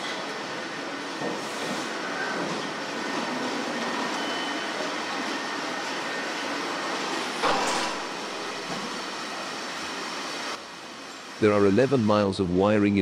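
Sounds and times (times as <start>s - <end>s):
factory floor background noise: 0.0s - 13.0s.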